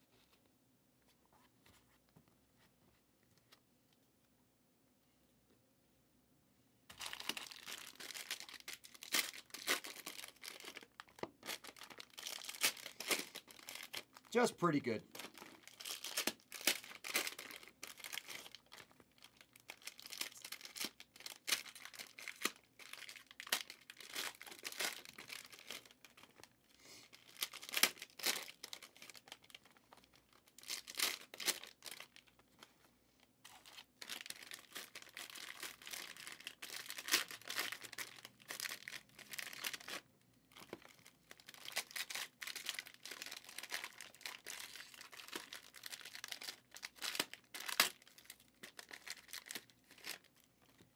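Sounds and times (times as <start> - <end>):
cellophane wrappers crinkling: 6.9 - 32.7, 33.5 - 50.9.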